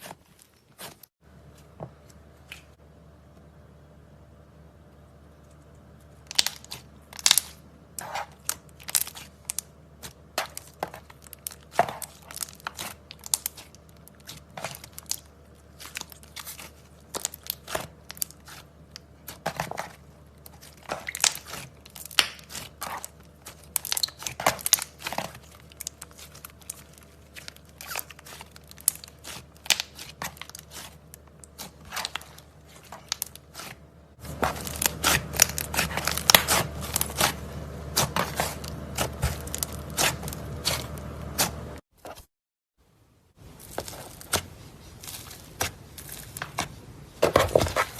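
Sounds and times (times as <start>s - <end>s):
slime crackling as kneaded: 6.1s - 41.8s, 43.4s - 47.9s.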